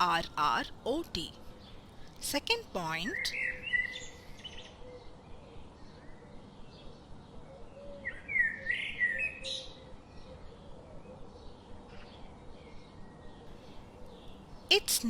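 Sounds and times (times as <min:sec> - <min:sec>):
bird chirping: 0:00.0 - 0:15.0
faint background hum: 0:00.0 - 0:15.0.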